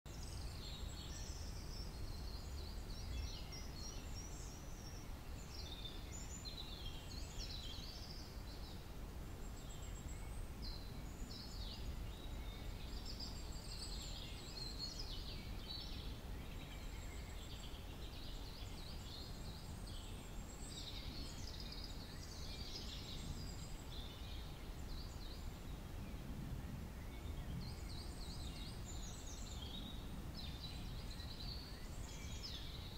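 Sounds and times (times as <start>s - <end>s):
small birds twittering: 0.1s - 32.9s.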